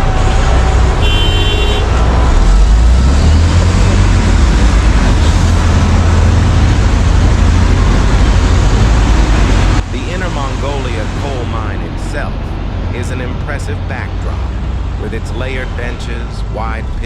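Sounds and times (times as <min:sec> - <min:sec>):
heavy diesel machinery drone: 0:00.0 - 0:17.0.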